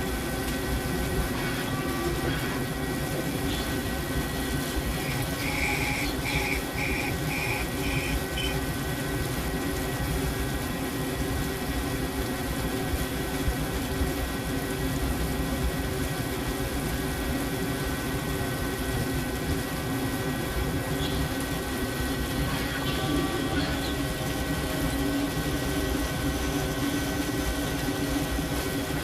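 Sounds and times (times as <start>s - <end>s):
machine humming with held tones: 0.0s - 29.0s.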